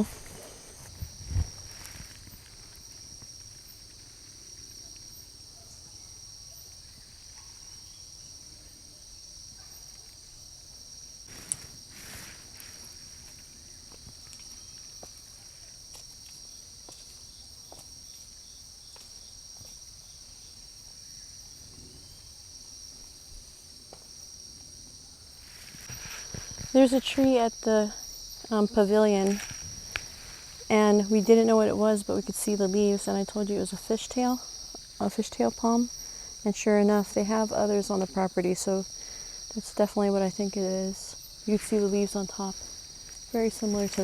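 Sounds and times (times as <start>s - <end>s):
insect chorus drone: 0.0s - 44.0s.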